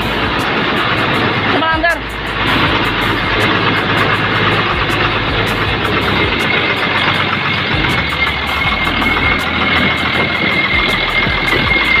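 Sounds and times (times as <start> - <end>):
bus engine idling: 0.0 - 12.0
thin high whine: 0.0 - 12.0.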